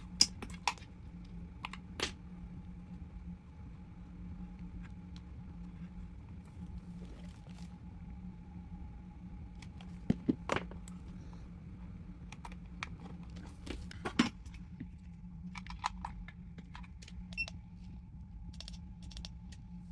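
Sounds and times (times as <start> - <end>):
faint constant whine: 0.0 - 19.9
steady low hum: 0.0 - 19.9.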